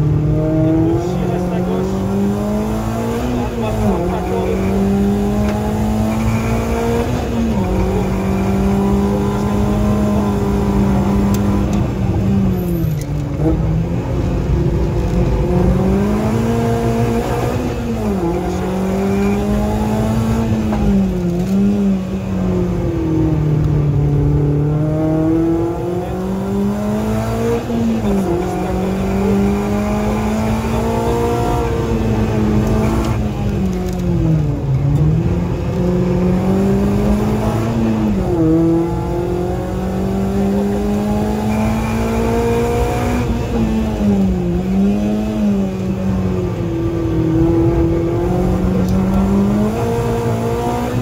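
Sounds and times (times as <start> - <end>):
car engine revving hard: 0.0 - 51.0.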